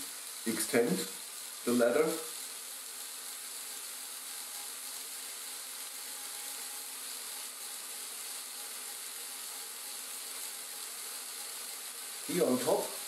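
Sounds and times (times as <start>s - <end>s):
toy electric motor whirring: 0.0s - 13.0s.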